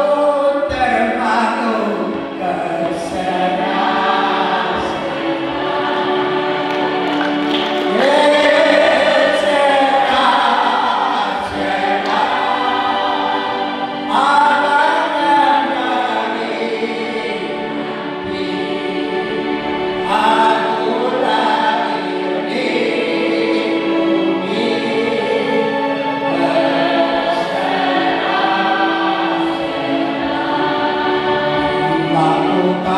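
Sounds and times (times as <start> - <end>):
choir singing slow song: 0.0 - 32.9.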